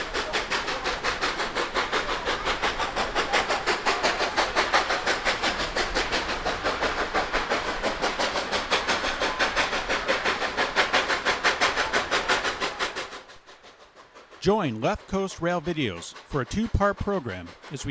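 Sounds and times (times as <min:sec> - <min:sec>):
steam locomotive chuffing: 0:00.0 - 0:17.9.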